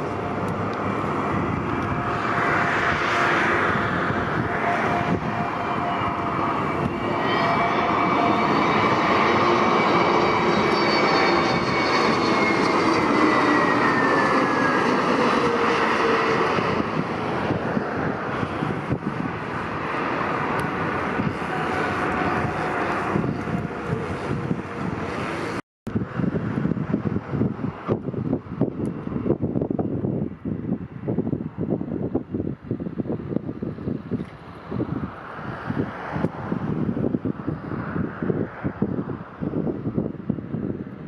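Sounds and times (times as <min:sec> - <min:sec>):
passenger aircraft passing by: 0:00.0 - 0:41.0.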